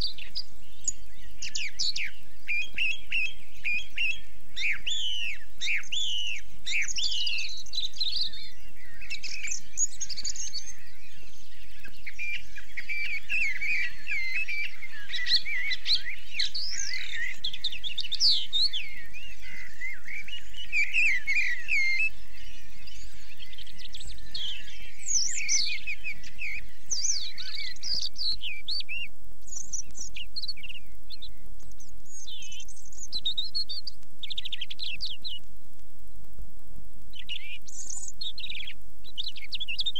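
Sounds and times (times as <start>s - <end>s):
birds chirping and warbling: 0.0s - 35.5s, 37.1s - 39.9s.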